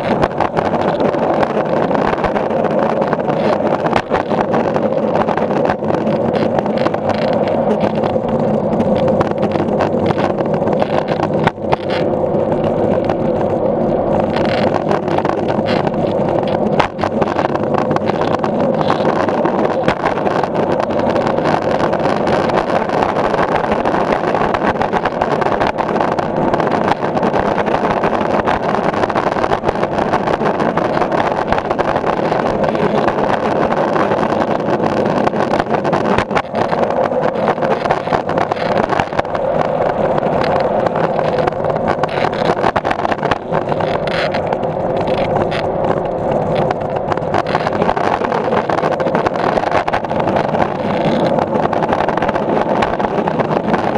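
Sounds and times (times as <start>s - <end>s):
skateboard wheels rolling on concrete: 0.0s - 53.9s.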